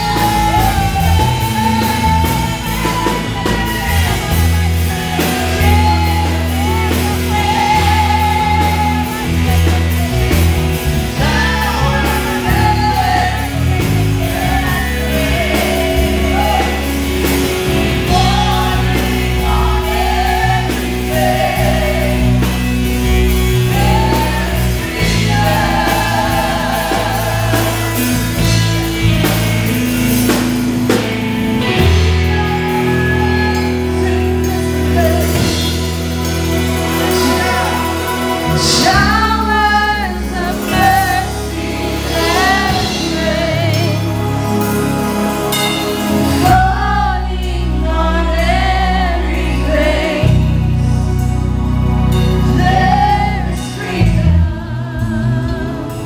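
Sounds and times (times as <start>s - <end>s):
woman singing into microphone: 0.0s - 31.0s, 31.6s - 44.9s, 52.4s - 56.0s
amplified instrumental accompaniment: 0.0s - 56.0s
sustained low bass notes: 0.0s - 56.0s.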